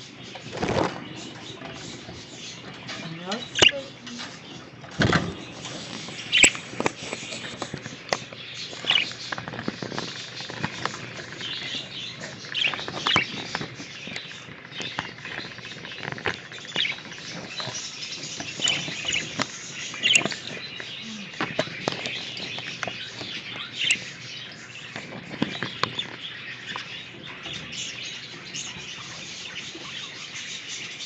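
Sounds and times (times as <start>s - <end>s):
budgerigars chirping and chattering: 0.0s - 31.0s
clicks and scratches: 0.2s - 30.5s.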